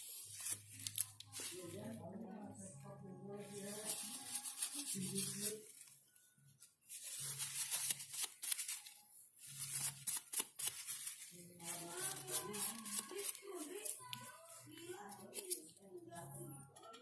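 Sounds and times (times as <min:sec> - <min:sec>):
rustling and scraping handling: 0:00.0 - 0:02.1, 0:03.4 - 0:17.0.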